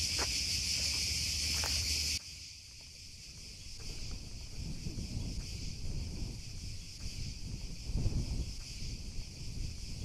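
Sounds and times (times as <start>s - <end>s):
high-pitched insect chorus: 0.0s - 10.0s
quiet outdoor background: 0.0s - 10.0s.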